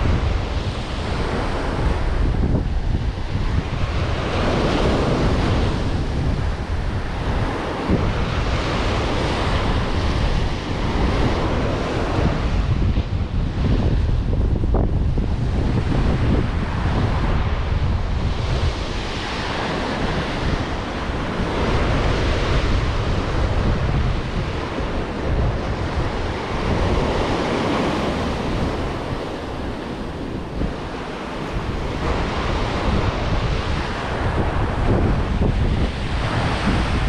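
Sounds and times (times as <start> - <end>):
surf breaking on beach: 0.0 - 37.0
wind rumbling on microphone: 0.0 - 37.0.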